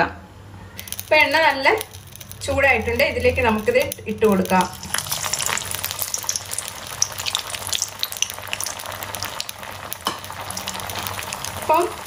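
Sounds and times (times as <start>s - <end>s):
food deep-frying in oil: 0.8s - 12.0s.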